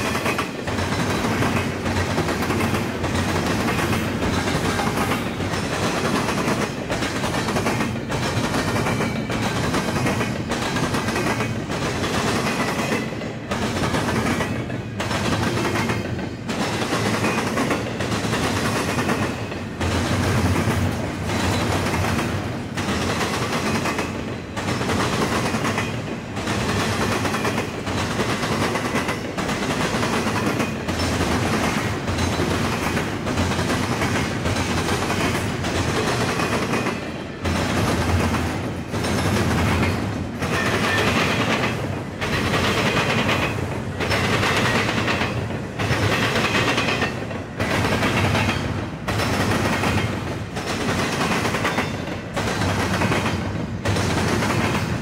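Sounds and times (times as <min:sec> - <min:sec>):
train wheels clattering on track: 0:00.0 - 0:55.0.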